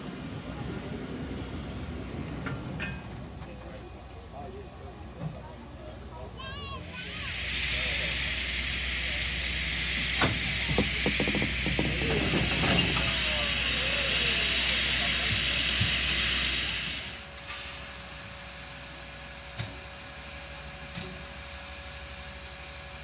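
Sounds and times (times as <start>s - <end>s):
steam locomotive hissing steam: 0.0s - 23.0s.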